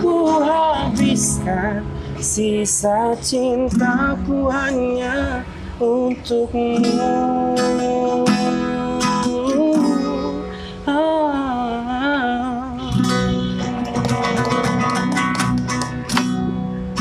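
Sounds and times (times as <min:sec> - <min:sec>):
acoustic guitar strumming and picking: 0:00.0 - 0:17.0.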